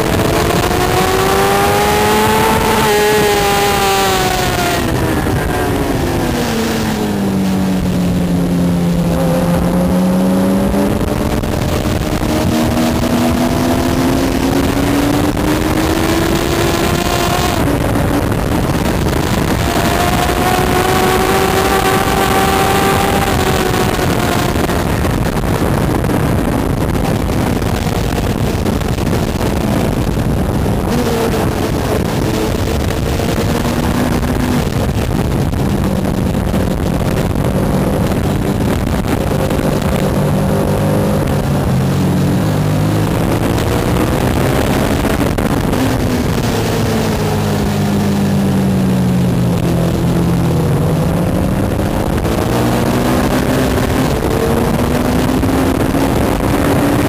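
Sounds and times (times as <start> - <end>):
heavy wind rush: 0.0 - 57.0
motorcycle engine at speed: 0.0 - 57.0.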